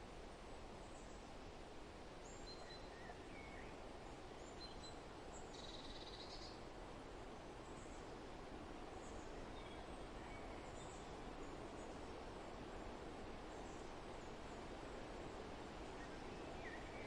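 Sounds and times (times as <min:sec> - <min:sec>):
wind through foliage: 0:00.0 - 0:17.0
songbird chirps: 0:02.2 - 0:06.7, 0:07.3 - 0:17.0.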